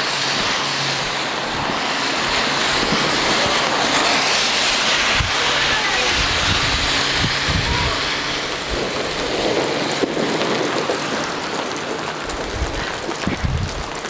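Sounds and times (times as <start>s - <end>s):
heavy rain pouring: 0.0s - 14.0s
raindrops pattering on umbrella: 0.0s - 14.0s.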